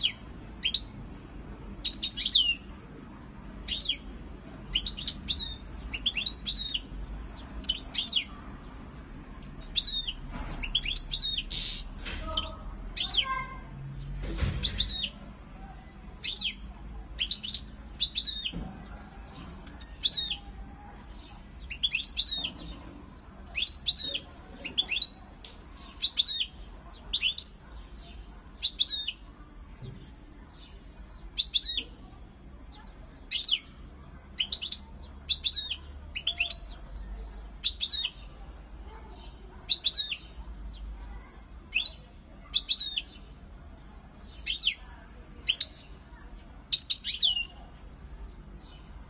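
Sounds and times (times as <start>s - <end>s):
bird chirping: 0.0s - 1.0s, 1.8s - 2.7s, 3.6s - 15.4s, 16.2s - 33.7s, 34.4s - 38.4s, 39.1s - 43.4s, 44.2s - 47.7s.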